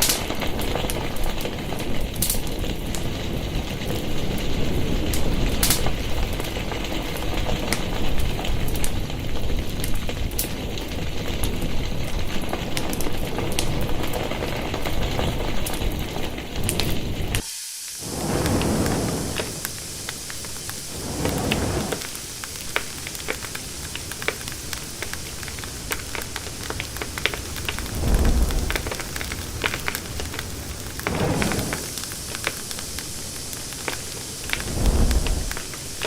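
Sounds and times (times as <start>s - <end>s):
fire burning with crackles: 0.0s - 36.0s.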